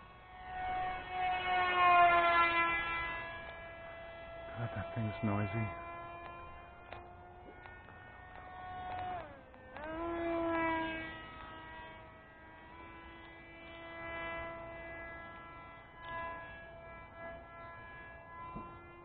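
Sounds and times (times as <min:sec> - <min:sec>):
model airplane motor whining: 0:00.0 - 0:19.0.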